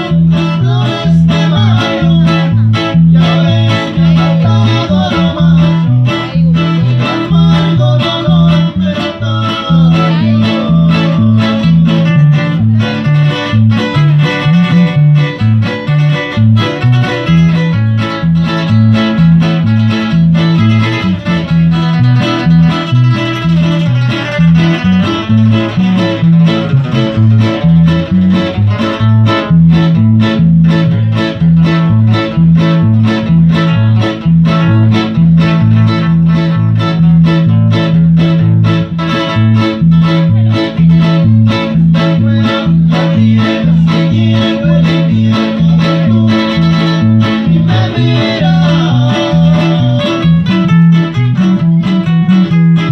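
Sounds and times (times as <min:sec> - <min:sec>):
band music: 0:00.0 - 0:52.9
bass line: 0:00.0 - 0:52.9
plucked guitar: 0:00.0 - 0:52.9.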